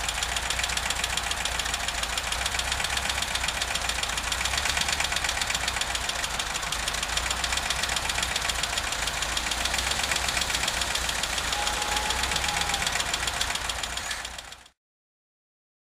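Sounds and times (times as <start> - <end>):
engine idling: 0.0 - 14.8
fast ticking from engine: 0.0 - 14.8.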